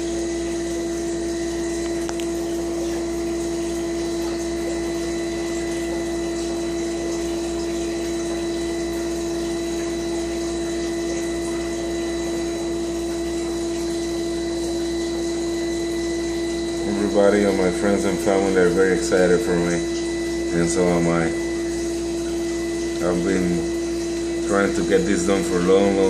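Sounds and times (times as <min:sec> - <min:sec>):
fish tank pump humming: 0:00.0 - 0:26.0.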